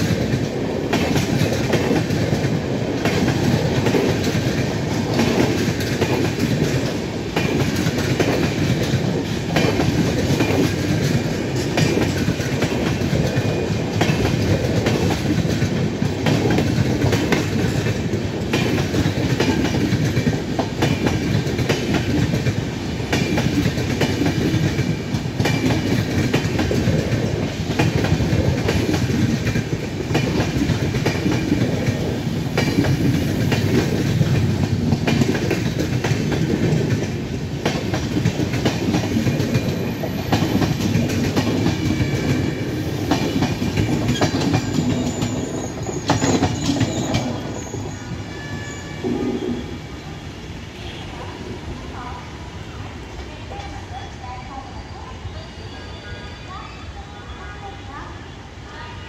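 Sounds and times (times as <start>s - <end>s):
train wheels clattering over rail joints: 0.0s - 47.9s.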